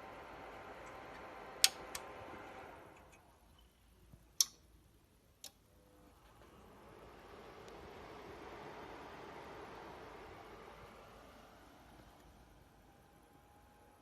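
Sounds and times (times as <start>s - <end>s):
faint steady tone: 2.5s - 14.0s.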